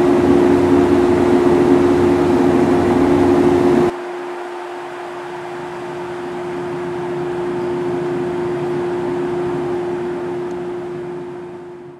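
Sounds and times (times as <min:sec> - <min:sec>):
electric train equipment humming: 0:00.0 - 0:11.9.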